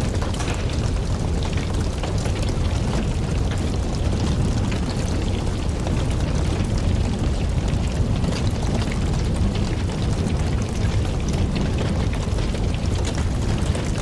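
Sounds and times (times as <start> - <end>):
burning logs crackling and popping: 0.0 - 14.0
campfire flames rumbling: 0.0 - 14.0.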